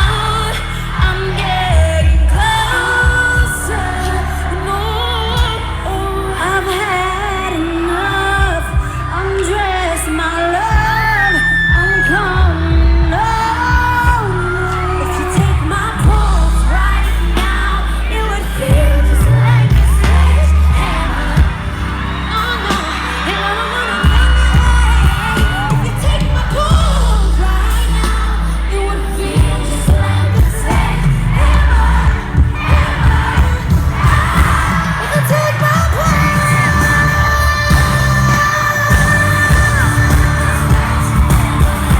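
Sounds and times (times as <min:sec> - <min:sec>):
concert crowd: 0:00.0 - 0:41.9
woman singing over heavy bass beats: 0:00.0 - 0:41.9.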